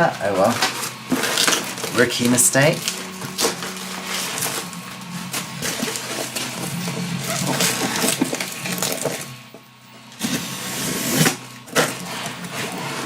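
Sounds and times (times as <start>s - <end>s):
cardboard box rustling and crackling: 0.0s - 13.0s.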